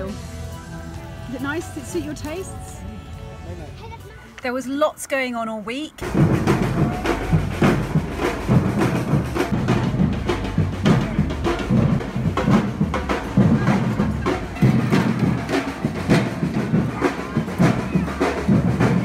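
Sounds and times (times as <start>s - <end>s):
bass drums and snare drums: 0.0s - 2.4s, 6.0s - 19.0s.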